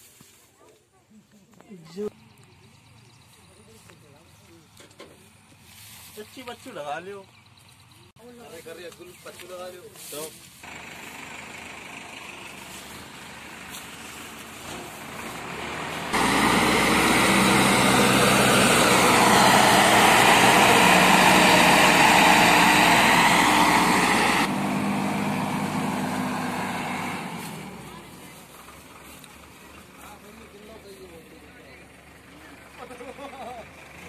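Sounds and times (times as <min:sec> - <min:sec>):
tractor diesel engines running: 0:01.9 - 0:34.0.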